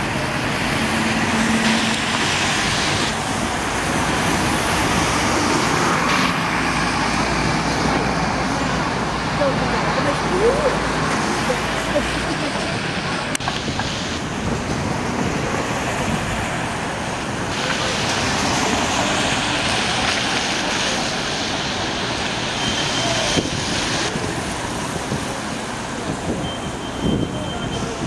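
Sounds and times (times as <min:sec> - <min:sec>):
tyres hissing on wet pavement: 0:00.0 - 0:28.0
vehicles running: 0:00.0 - 0:28.0.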